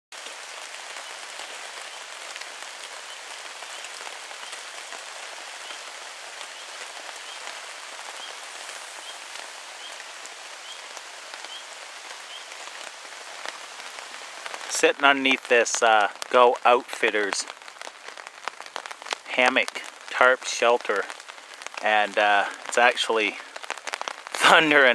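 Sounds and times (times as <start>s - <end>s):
rain on a tarp: 0.1s - 24.9s.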